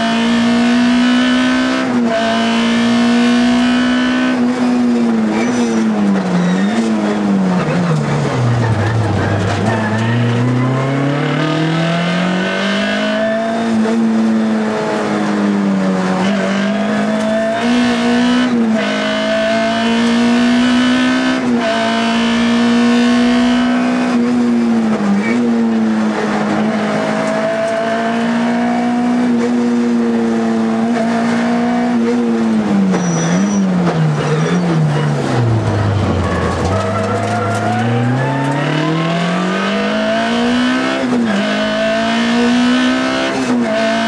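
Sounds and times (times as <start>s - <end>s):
rally car engine at full throttle: 0.0s - 44.0s.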